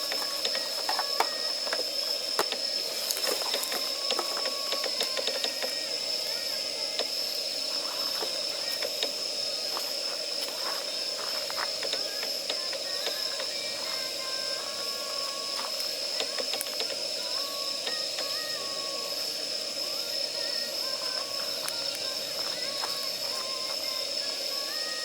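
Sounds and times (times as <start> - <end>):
high-pitched whine: 0.0 - 25.0.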